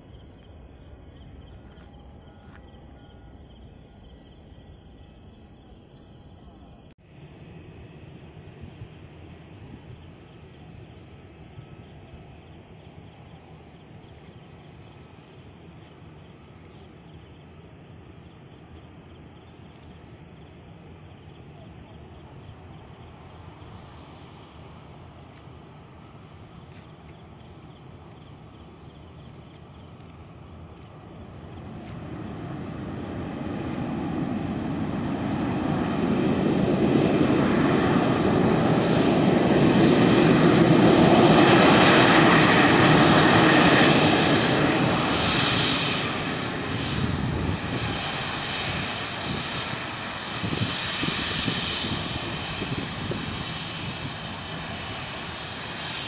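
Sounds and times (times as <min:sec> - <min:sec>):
jet airliner engines: 0:00.0 - 0:56.0.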